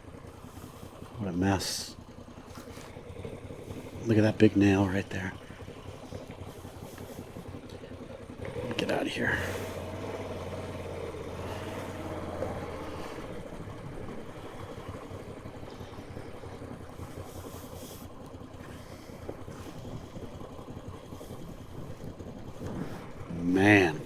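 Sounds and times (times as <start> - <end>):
motorcycle engine low rumble: 0.0 - 24.0.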